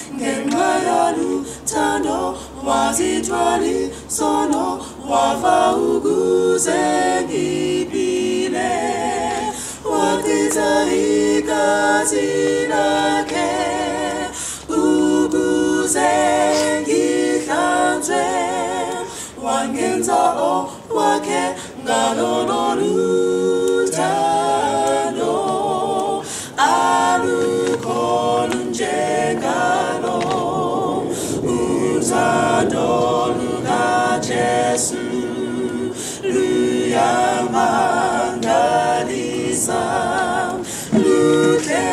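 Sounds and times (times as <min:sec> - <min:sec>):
a cappella group singing: 0:00.0 - 0:41.9.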